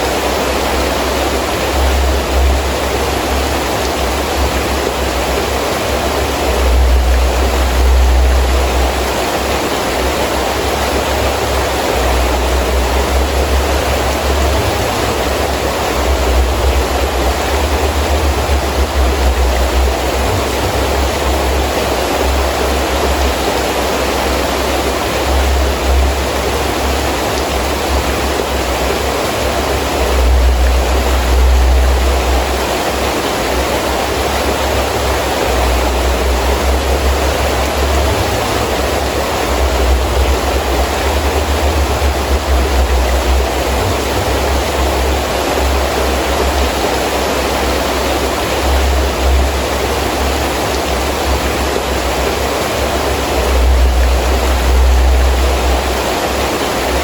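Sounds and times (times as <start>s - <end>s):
heavy rain: 0.0s - 57.0s
wind gusts rumbling: 0.8s - 57.0s.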